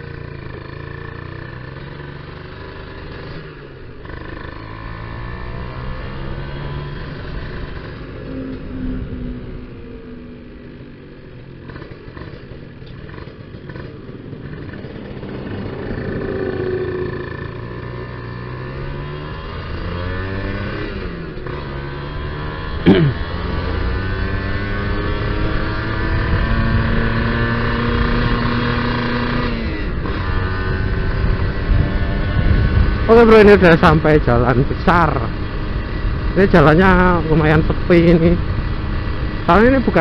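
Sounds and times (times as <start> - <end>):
two-stroke engine accelerating: 0.0 - 40.0.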